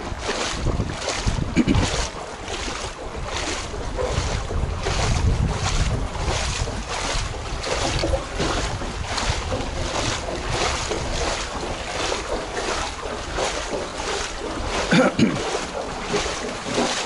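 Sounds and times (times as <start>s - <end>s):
footsteps splashing through water: 0.0s - 17.0s
wind rumble on microphone: 0.0s - 17.0s.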